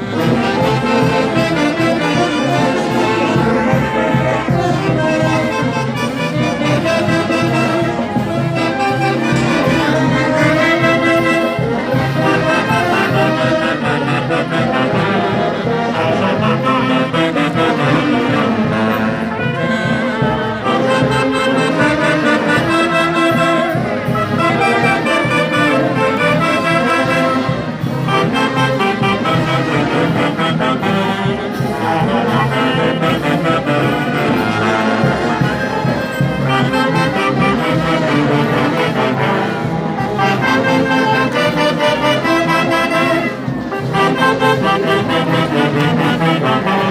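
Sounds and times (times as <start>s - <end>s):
brass band playing lively tune: 0.0s - 46.9s.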